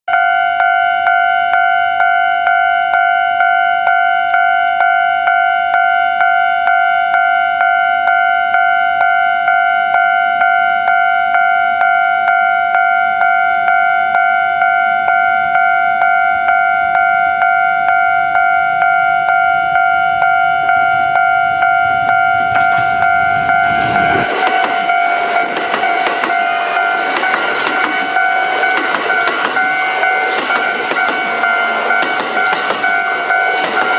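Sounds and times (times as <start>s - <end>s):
electric train running past: 0.1s - 33.9s
level crossing warning bell: 0.1s - 33.9s.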